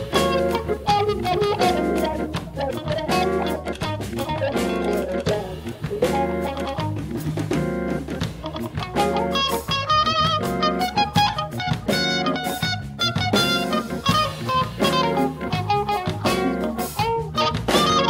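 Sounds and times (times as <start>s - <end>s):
funk band playing: 0.0s - 18.0s.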